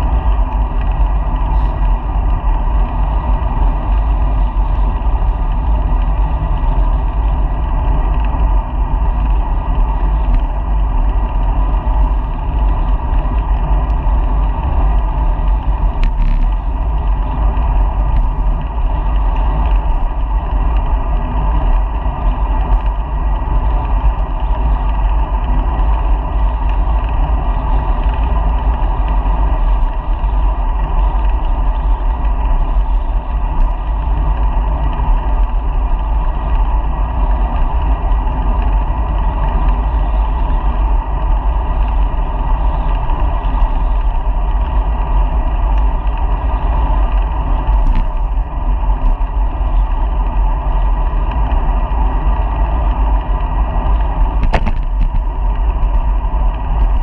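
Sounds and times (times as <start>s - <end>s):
bicycle rolling noise: 0.0s - 57.0s
wind rumble: 0.0s - 57.0s.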